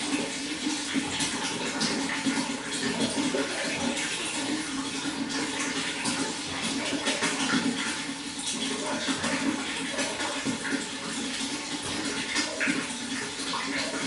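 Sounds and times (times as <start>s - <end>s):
running water flowing: 0.0s - 14.0s.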